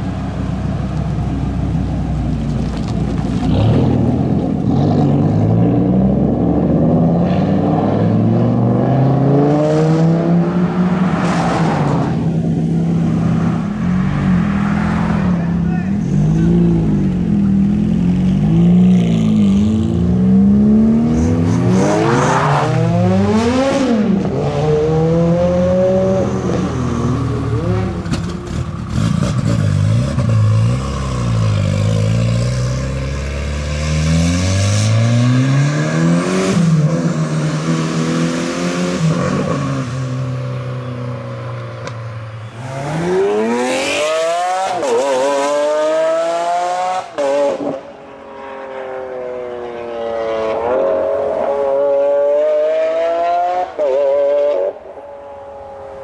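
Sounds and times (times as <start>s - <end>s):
car engines revving and accelerating: 0.0s - 56.0s.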